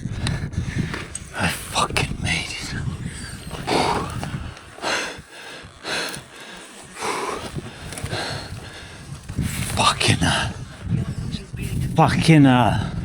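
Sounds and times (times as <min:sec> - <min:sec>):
man breathing heavily: 0:00.0 - 0:12.0.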